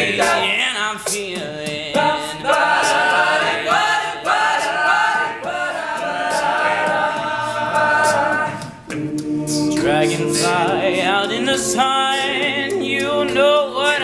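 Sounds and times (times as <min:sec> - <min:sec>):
male a cappella group singing: 0:00.0 - 0:14.0.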